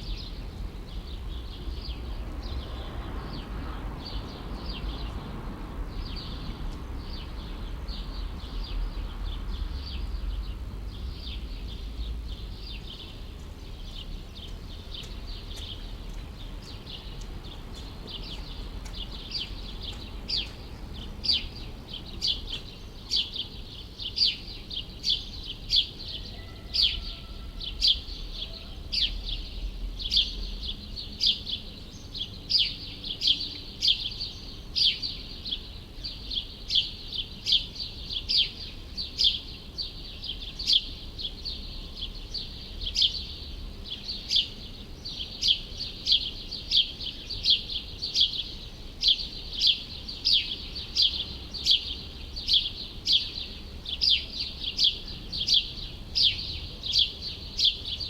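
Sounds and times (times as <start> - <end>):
low city rumble: 0.0 - 58.0
bird chirping: 6.0 - 58.0.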